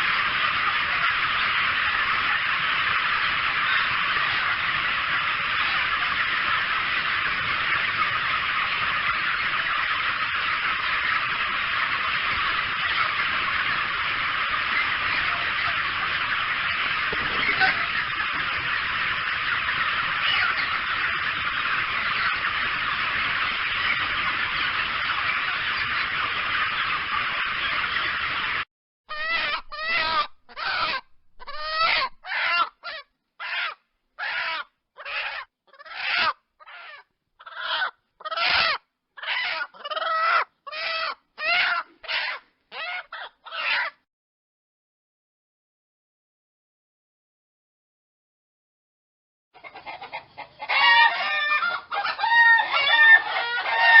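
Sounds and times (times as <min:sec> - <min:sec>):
chicken squawking: 0:00.0 - 0:44.0, 0:49.6 - 0:54.0
chickens clucking din: 0:00.0 - 0:44.0, 0:49.6 - 0:54.0.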